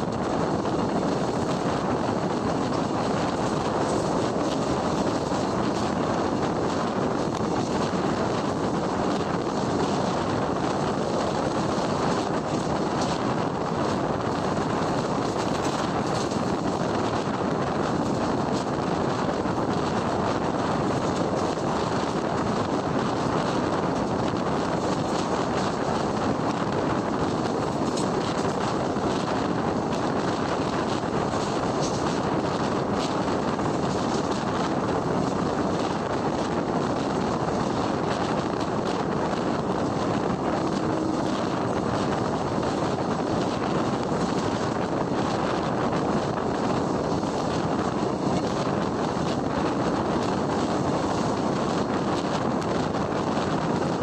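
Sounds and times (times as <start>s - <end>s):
train wheels rumbling on rails: 0.0s - 54.0s
wind noise on microphone: 0.0s - 54.0s.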